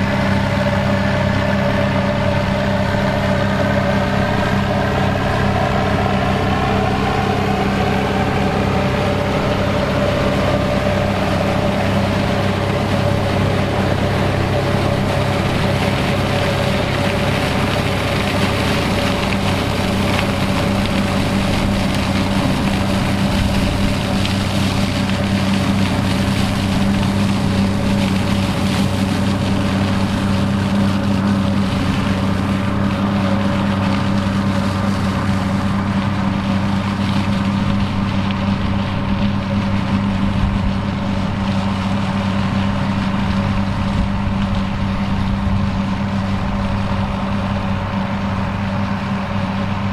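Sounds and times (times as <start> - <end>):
high whine sliding down in pitch: 0.0 - 49.9
tractor diesel engine running: 0.0 - 49.9.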